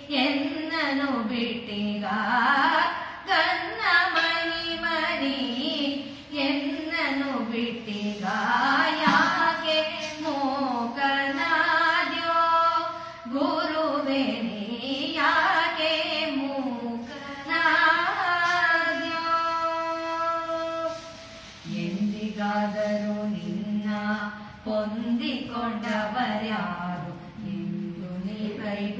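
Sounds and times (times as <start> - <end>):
lower steady vocal line: 0.0 - 28.9
woman singing: 0.0 - 28.9.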